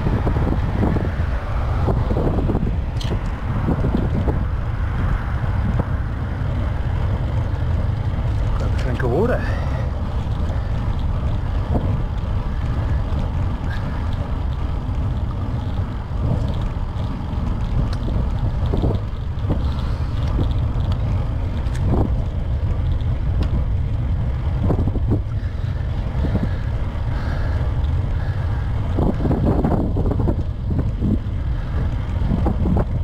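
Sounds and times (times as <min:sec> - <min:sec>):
wind rumbling on microphone: 0:00.0 - 0:33.0.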